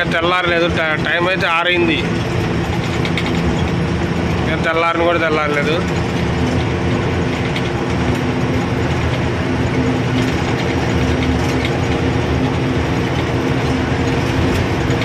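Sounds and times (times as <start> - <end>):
diesel engine rumble from cab: 0.0 - 15.0.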